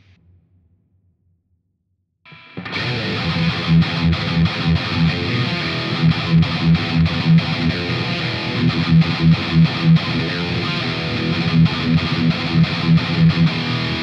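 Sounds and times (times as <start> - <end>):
distorted electric guitar riff: 2.3 - 14.0.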